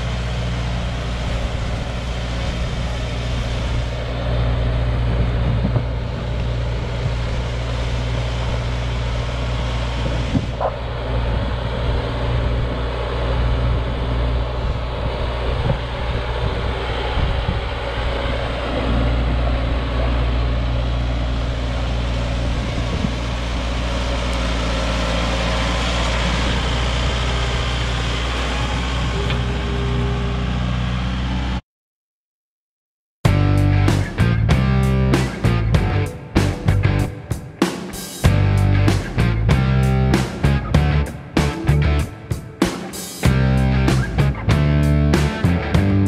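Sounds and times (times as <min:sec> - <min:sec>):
tractor diesel engine under load: 0:00.0 - 0:31.6, 0:33.3 - 0:37.3, 0:38.2 - 0:42.3, 0:43.2 - 0:46.0.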